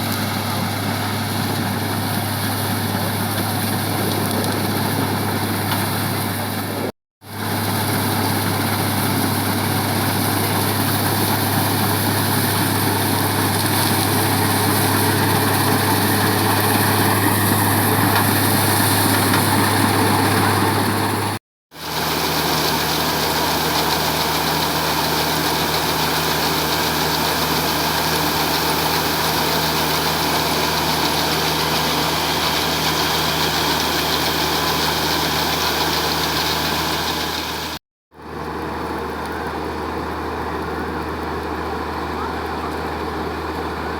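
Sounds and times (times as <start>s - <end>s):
combine harvester engine humming: 0.0s - 43.9s.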